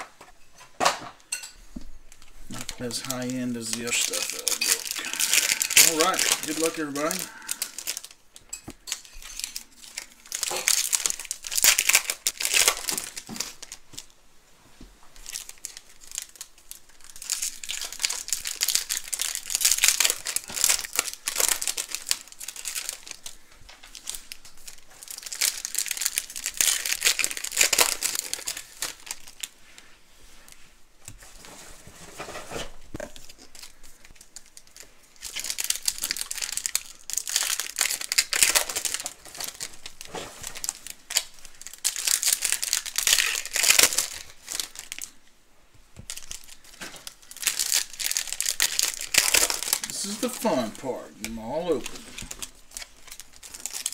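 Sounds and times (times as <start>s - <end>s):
plastic packaging tearing and crinkling: 2.1s - 14.1s, 15.2s - 29.9s, 31.0s - 45.3s, 46.0s - 53.9s.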